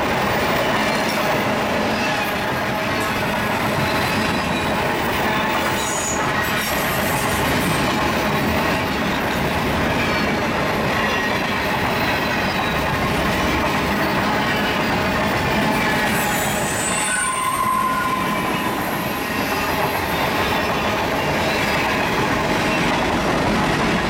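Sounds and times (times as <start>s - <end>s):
train wheels rumbling on rails: 0.0s - 24.0s
wheels squealing on rails: 0.0s - 24.0s.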